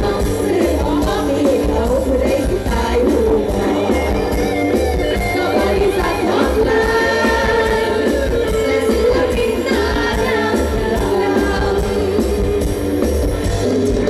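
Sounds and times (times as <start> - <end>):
woman singing into microphone: 0.0 - 4.4, 5.1 - 12.8
live band music: 0.0 - 14.0.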